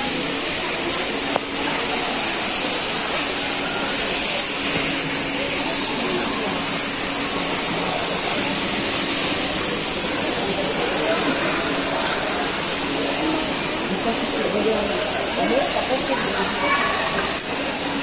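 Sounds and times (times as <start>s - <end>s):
faint indistinct voices: 0.0s - 18.0s.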